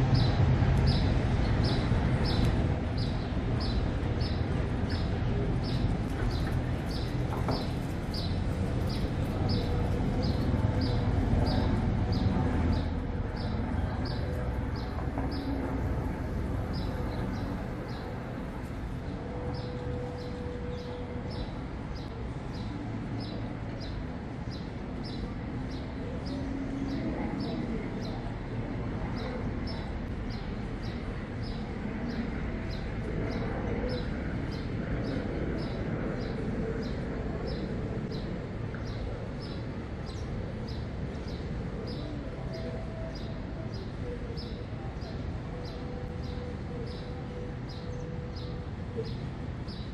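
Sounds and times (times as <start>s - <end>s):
distant traffic and harbour hum: 0.0s - 49.9s.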